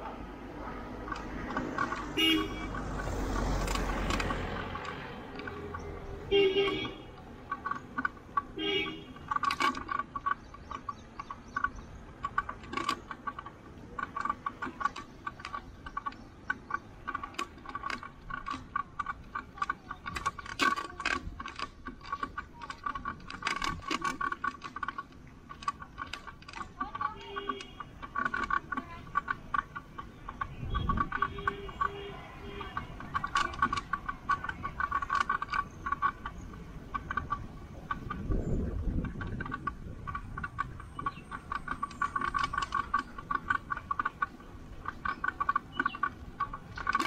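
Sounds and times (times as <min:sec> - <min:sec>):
bicycle rattling and clicking: 0:00.0 - 0:47.0.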